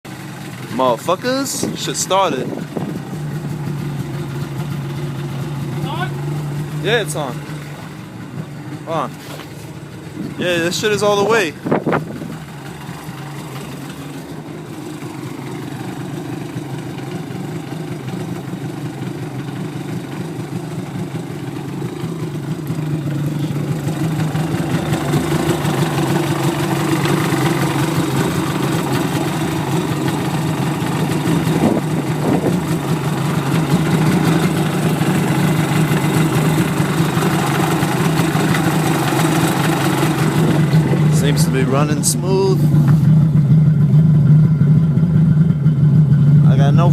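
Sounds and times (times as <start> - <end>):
personal watercraft engine running: 0.1 - 46.9.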